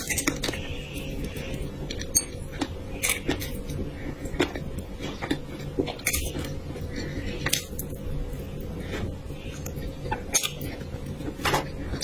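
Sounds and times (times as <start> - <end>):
wet chewing: 0.0 - 12.0.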